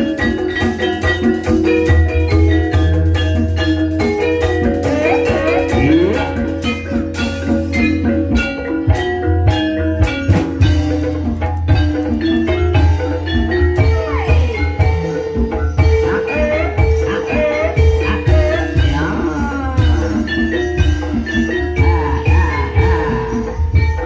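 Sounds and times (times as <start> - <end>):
drums: 0.0 - 24.0
mallet-struck keyed instruments: 0.0 - 24.0.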